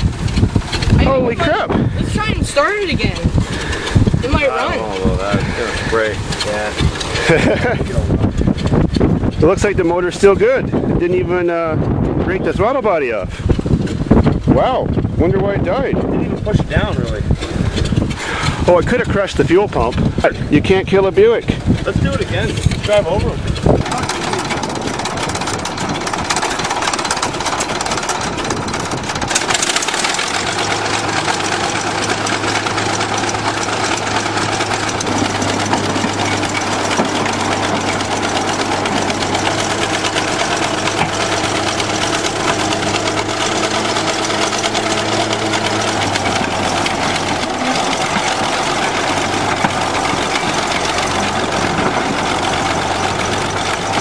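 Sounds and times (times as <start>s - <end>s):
bulldozer engine running: 0.0s - 54.0s
steady low hum: 0.0s - 54.0s.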